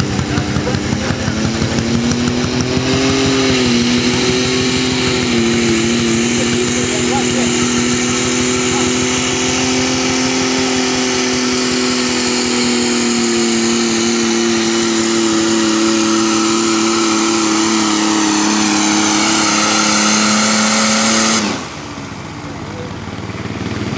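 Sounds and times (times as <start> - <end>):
diesel engine under heavy load: 0.0 - 23.9.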